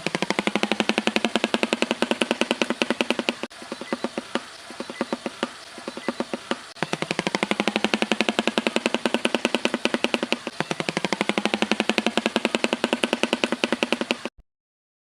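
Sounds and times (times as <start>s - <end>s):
bird bill clattering: 0.2s - 14.3s.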